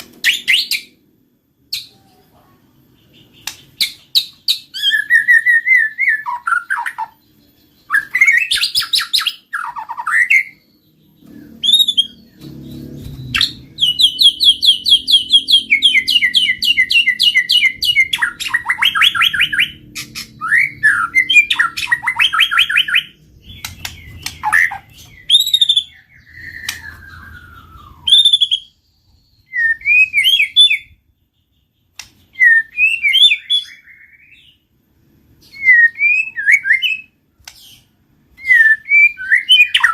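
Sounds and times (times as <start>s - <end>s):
bird singing whistled notes: 3.1s - 34.7s, 35.4s - 39.9s.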